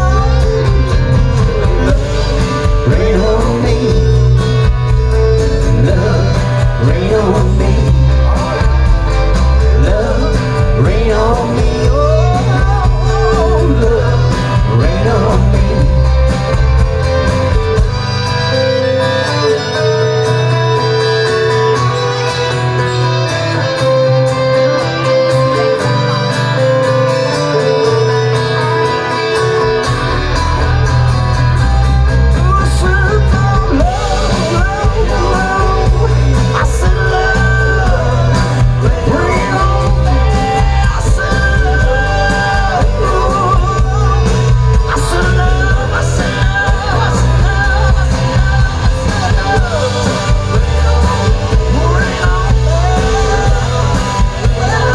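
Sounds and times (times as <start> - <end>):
heavy bass and drums: 0.0 - 19.6, 28.0 - 54.9
rock band playing: 0.0 - 54.9
wavering guitar melody: 0.0 - 54.9.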